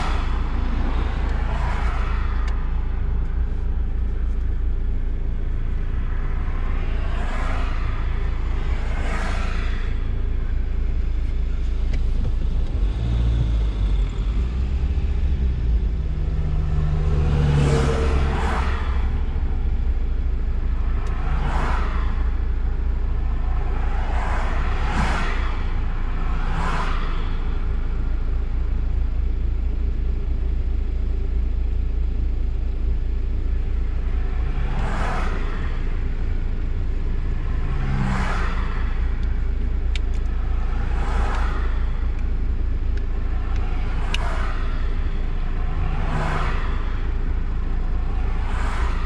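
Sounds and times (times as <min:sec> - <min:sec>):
steady low rumble: 0:00.0 - 0:49.0
vehicles passing: 0:00.0 - 0:49.0.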